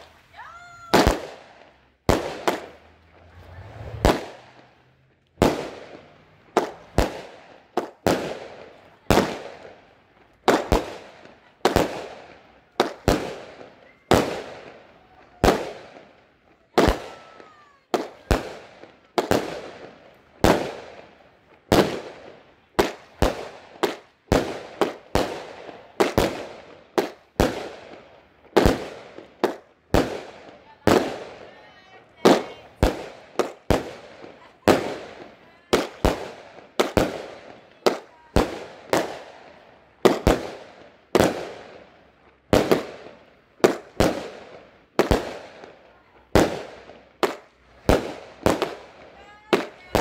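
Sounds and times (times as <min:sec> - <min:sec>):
firework bangs with echo: 0:00.9 - 0:04.8, 0:05.4 - 0:16.2, 0:16.8 - 0:41.9, 0:42.5 - 0:50.0.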